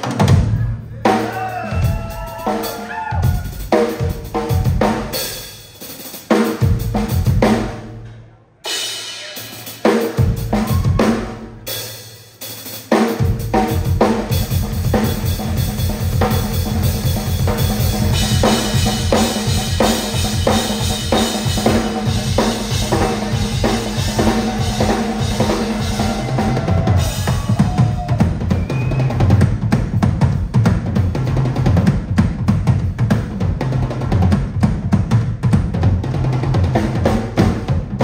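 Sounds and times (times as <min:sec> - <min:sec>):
drum kit solo: 0:00.0 - 0:38.0.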